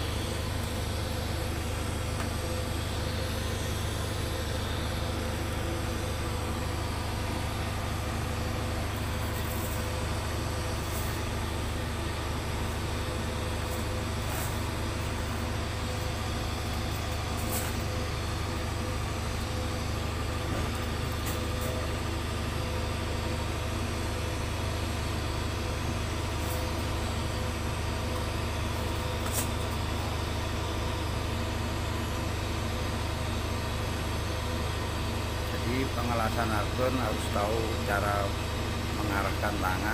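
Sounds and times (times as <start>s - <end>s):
low machine drone: 0.0s - 39.9s.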